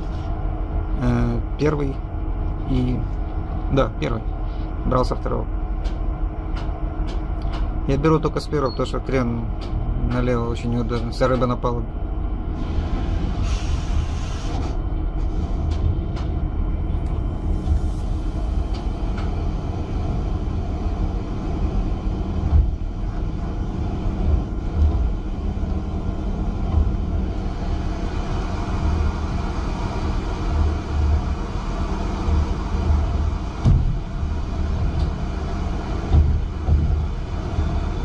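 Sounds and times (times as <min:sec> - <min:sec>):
ship engines rumbling: 0:00.0 - 0:38.0.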